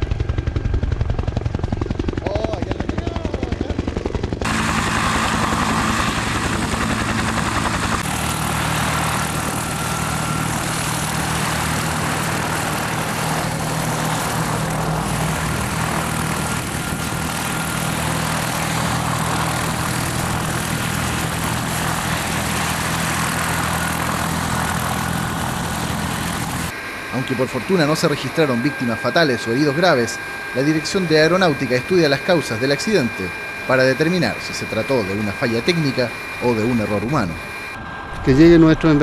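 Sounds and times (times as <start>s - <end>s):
helicopter engine and rotor drone: 0.0s - 39.0s.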